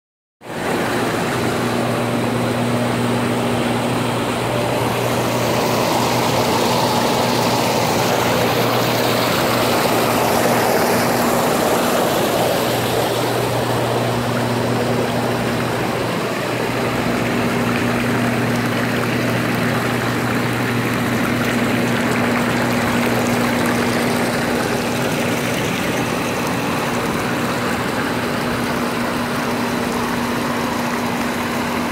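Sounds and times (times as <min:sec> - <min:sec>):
low pump hum: 0:00.4 - 0:31.9
water jets rushing: 0:00.5 - 0:31.9.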